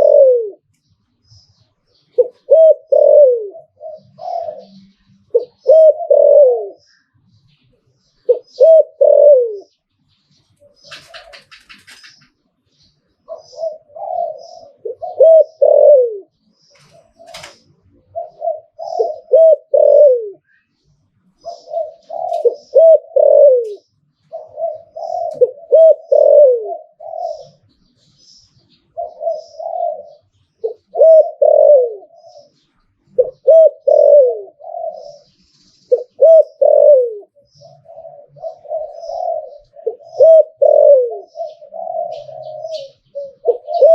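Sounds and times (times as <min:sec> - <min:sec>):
dove cooing: 0:00.0 - 0:00.8, 0:01.9 - 0:07.2, 0:08.2 - 0:09.8, 0:10.4 - 0:12.3, 0:13.2 - 0:43.9
small birds chirping: 0:00.0 - 0:43.9.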